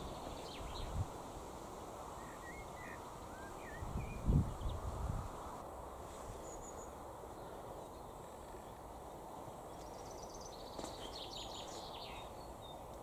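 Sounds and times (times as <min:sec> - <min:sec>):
songbird singing: 0:00.0 - 0:01.2, 0:01.8 - 0:13.0
outdoor background noise: 0:00.0 - 0:13.0.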